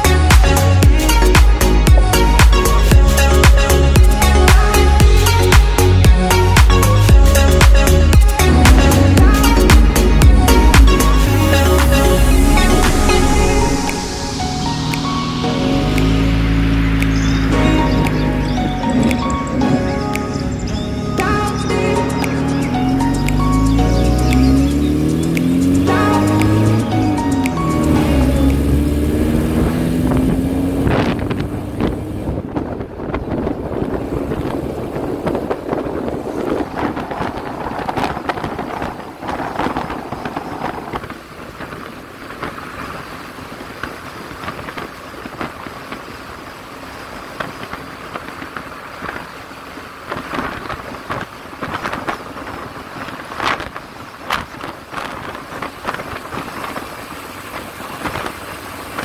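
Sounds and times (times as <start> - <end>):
car engine: 0.0 - 59.0
road noise: 0.0 - 59.0
wind rushing over microphone: 7.7 - 21.8, 22.7 - 46.5, 47.3 - 59.0.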